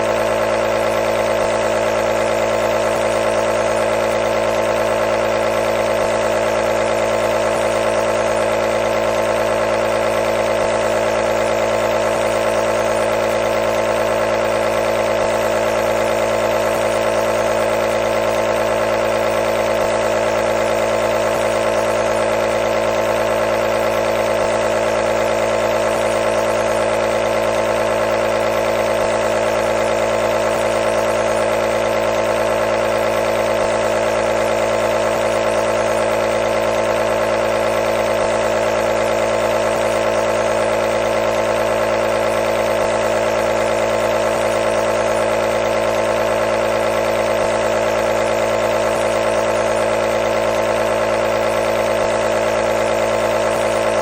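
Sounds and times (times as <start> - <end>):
nebulizer compressor humming: 0.0 - 54.0.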